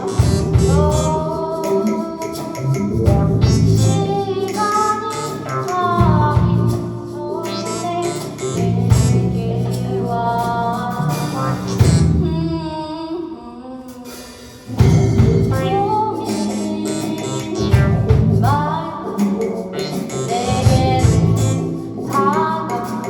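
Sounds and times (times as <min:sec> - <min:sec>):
bass: 0:00.0 - 0:13.3, 0:14.1 - 0:23.0
guitar: 0:00.0 - 0:23.0
person singing: 0:00.0 - 0:23.0.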